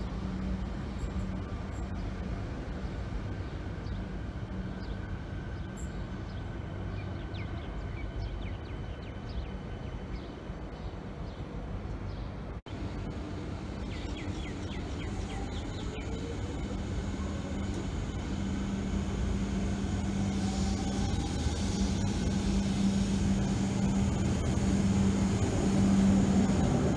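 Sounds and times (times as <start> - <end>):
electric train rumble and hum: 0.0 - 26.9.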